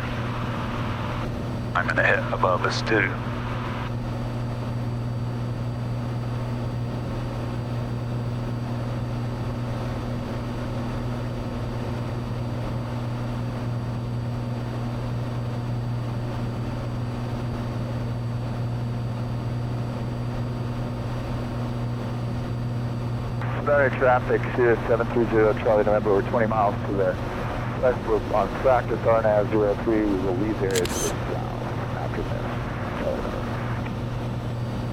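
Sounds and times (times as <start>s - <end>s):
airplane engine and propeller droning: 0.0s - 34.9s.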